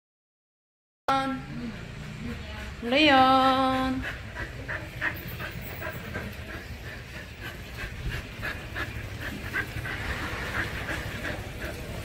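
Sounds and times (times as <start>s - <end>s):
dog panting: 1.4s - 12.0s.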